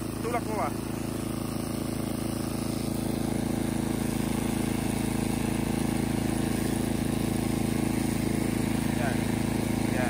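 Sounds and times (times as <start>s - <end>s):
snow blower engine running: 0.0s - 10.0s.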